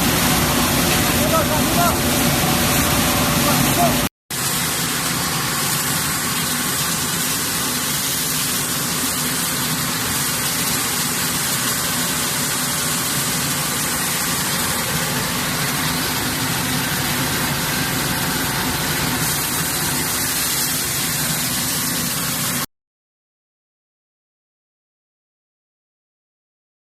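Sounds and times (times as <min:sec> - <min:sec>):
rice milling machine running: 0:00.0 - 0:22.7.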